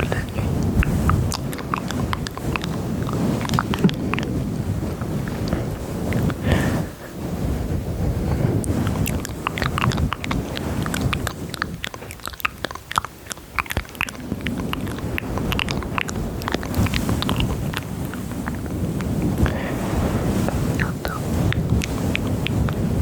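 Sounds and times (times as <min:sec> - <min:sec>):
wet mouth clicks and lip smacks: 0:00.0 - 0:06.4, 0:08.6 - 0:19.6, 0:20.4 - 0:22.9
low rustling rumble: 0:00.0 - 0:23.0.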